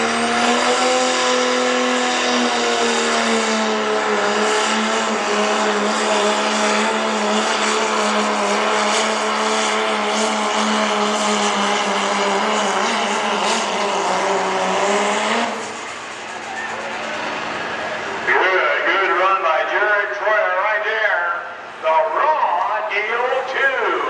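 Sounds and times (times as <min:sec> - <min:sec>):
diesel truck engine at full throttle: 0:00.0 - 0:24.0.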